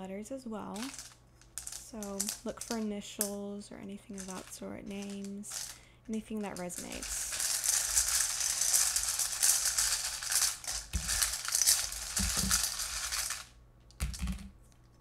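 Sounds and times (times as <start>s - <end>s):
wooden tiles clattering in metal bowl: 0.6s - 3.4s, 4.1s - 14.5s.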